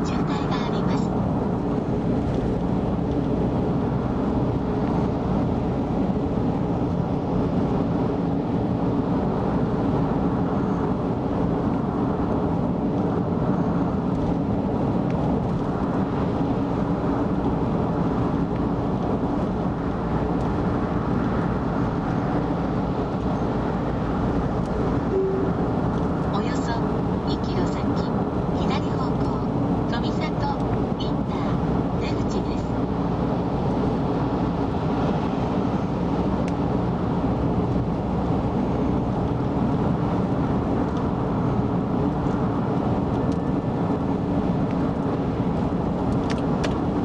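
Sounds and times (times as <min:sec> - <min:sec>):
car tyre and engine noise: 0:00.0 - 0:47.0.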